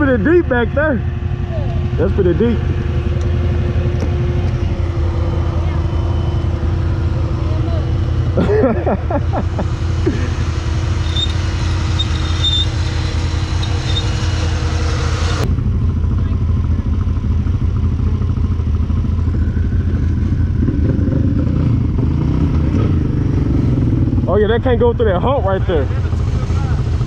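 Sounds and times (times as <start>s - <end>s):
engine hum: 0.0s - 27.0s.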